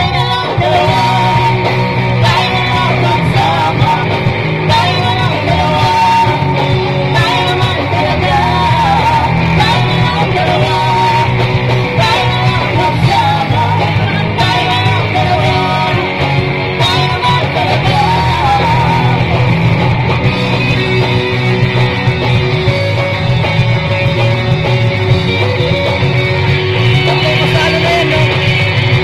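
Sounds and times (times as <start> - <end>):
amplified electric guitar: 0.0 - 29.0
live rock band playing loud: 0.0 - 29.0.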